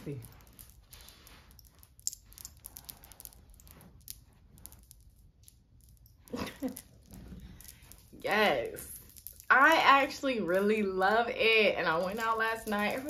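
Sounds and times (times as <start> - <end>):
hair beads clicking together: 0.0 - 13.0.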